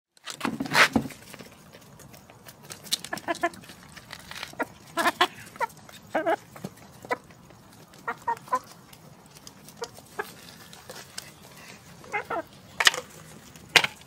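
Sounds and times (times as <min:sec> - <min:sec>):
chickens clucking: 0:01.2 - 0:14.0.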